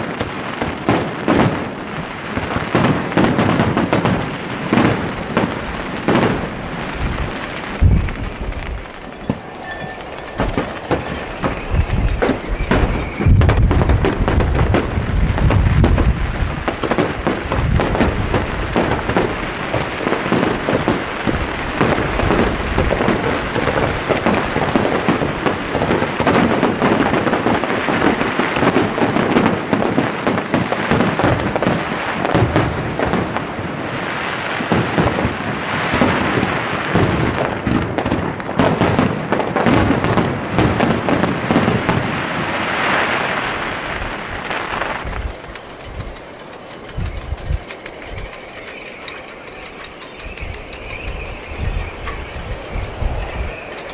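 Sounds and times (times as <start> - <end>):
fireworks heavy booms: 0.0 - 48.3
fireworks crackling: 0.0 - 53.9.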